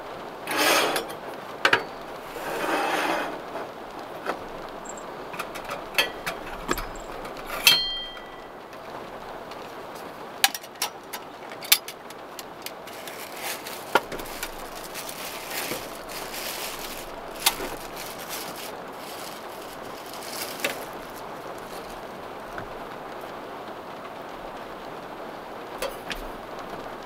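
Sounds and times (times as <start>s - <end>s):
rain on a car roof: 0.0s - 27.0s
raindrop ticks: 3.8s - 27.0s.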